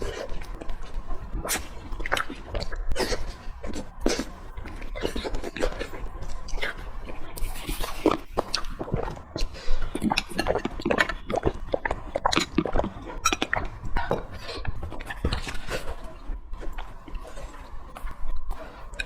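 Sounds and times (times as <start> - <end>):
person chewing wet clicks and smacks: 0.0 - 19.0.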